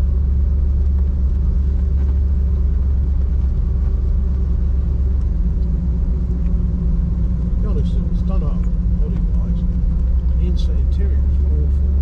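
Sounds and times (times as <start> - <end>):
car engine low rumble: 0.0 - 12.0
road noise: 0.0 - 12.0.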